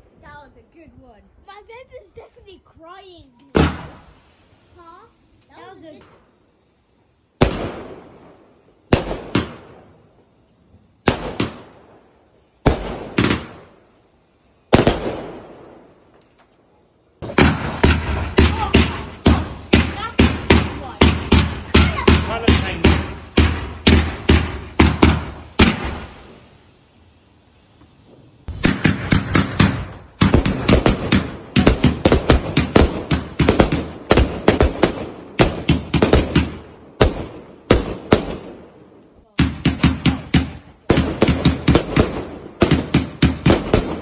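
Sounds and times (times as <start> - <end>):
fireworks bursting with sharp bangs: 0.0 - 44.0.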